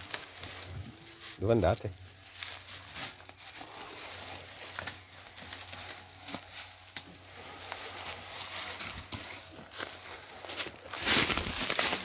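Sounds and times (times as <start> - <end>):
rustling of dry leaves: 0.0 - 12.0.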